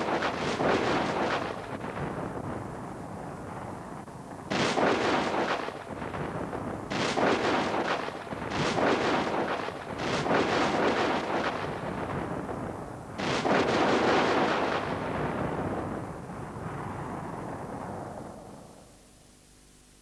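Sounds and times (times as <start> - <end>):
booms: 0.0 - 3.6, 4.5 - 18.6.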